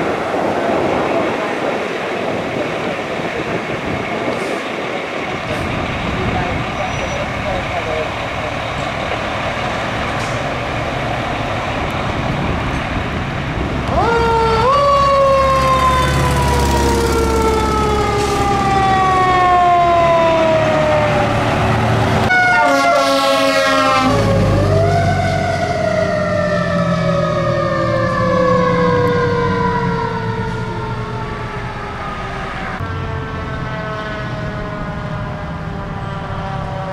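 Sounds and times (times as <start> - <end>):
truck engine rumble: 0.0 - 36.9
fire engine siren: 4.1 - 36.9.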